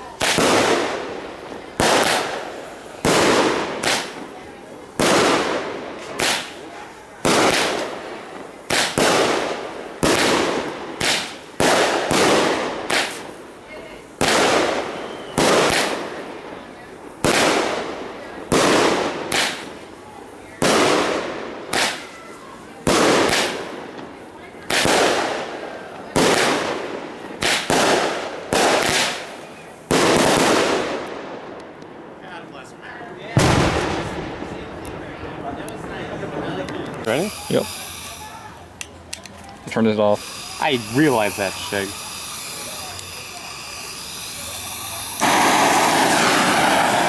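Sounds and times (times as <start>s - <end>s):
fireworks bangs: 0.0s - 32.2s, 33.2s - 47.0s
rumble after fireworks: 0.0s - 47.0s.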